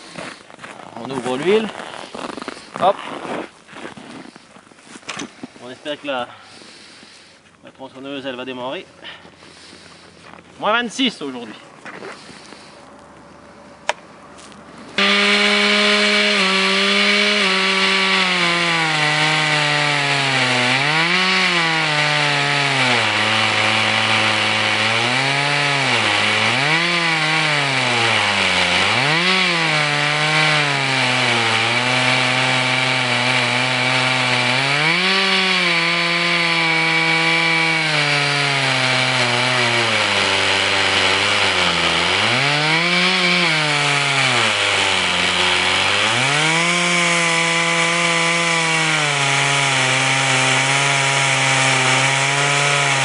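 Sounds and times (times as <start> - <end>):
chainsaw sawing wood: 0.0 - 53.0.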